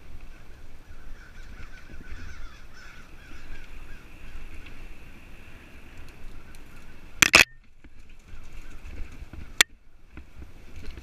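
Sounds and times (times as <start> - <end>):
bike tyres rumbling on dirt: 0.0 - 11.0.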